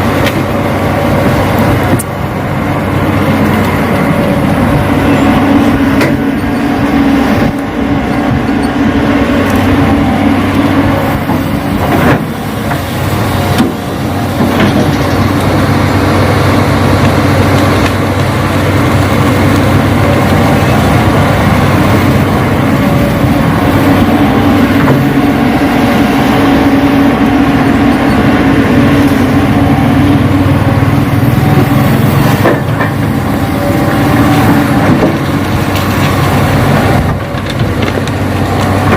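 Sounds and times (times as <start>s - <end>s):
model excavator mechanical drone: 0.0s - 38.9s.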